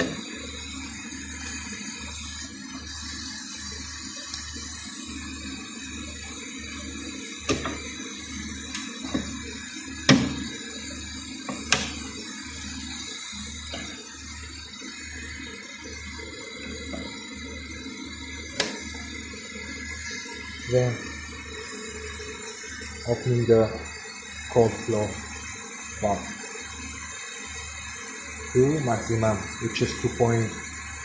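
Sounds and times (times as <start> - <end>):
low regular pulsing: 5.4 - 31.0.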